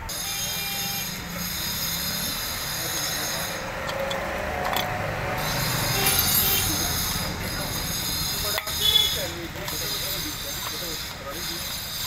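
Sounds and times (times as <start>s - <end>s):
mechanical background noise: 0.0s - 12.0s.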